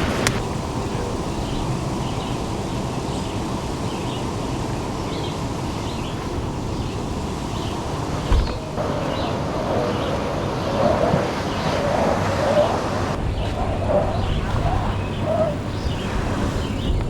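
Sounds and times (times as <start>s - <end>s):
steady low rumble: 0.0s - 17.0s
small bird chirping: 0.3s - 17.0s.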